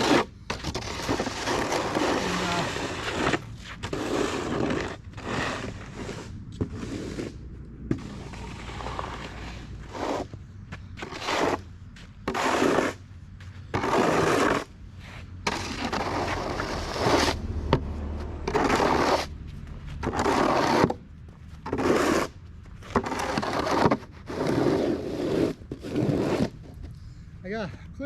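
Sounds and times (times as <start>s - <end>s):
snow shovel scraping pavement: 0.0s - 26.9s.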